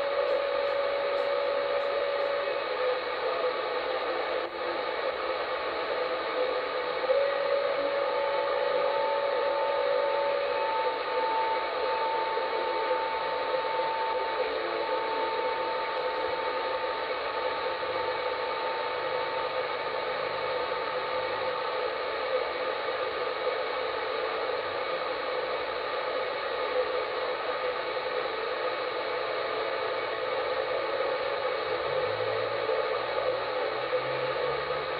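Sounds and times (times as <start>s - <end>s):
radio static hiss: 0.0s - 34.9s.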